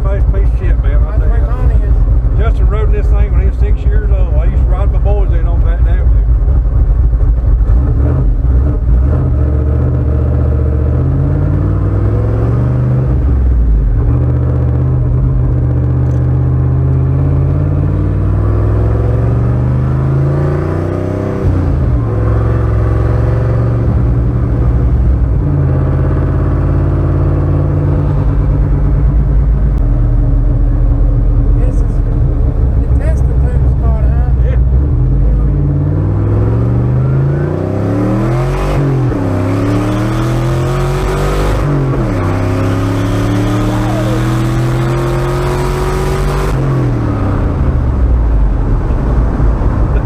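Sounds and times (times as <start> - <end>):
vehicle engine accelerating: 0.0 - 50.0.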